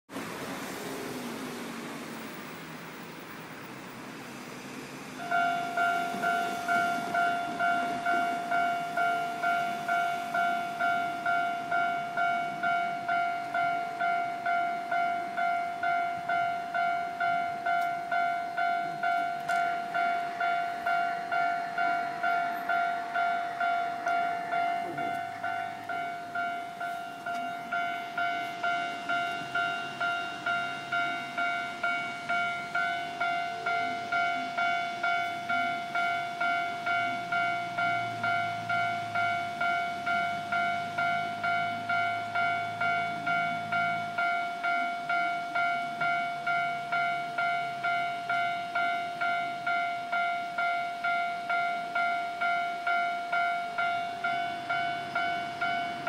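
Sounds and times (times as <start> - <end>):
passing car traffic: 0.1 - 49.9, 51.9 - 56.0
level crossing warning bell: 5.0 - 56.0.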